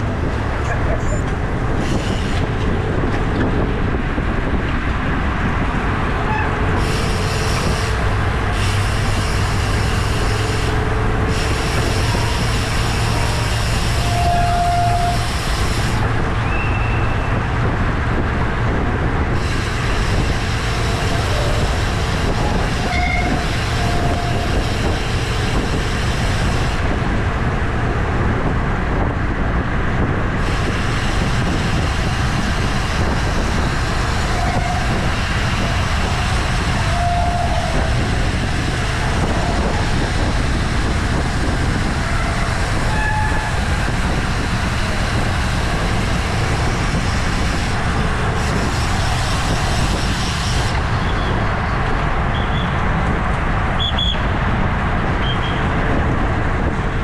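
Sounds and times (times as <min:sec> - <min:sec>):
road rumble: 0:00.0 - 0:57.0
rushing wind: 0:00.0 - 0:57.0.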